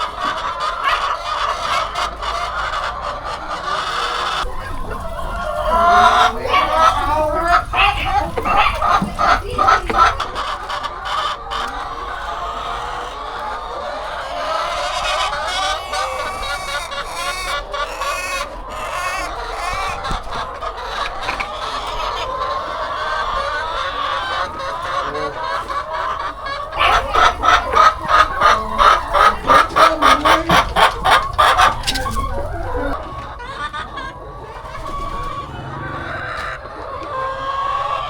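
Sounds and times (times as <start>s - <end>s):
hens clucking: 0.0s - 38.0s
loud rapid clucks: 0.0s - 38.0s.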